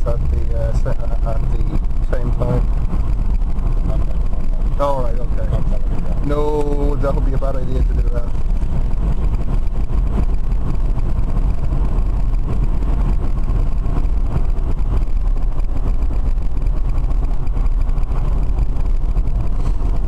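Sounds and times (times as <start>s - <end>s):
road and wind rumble in car: 0.0s - 20.0s.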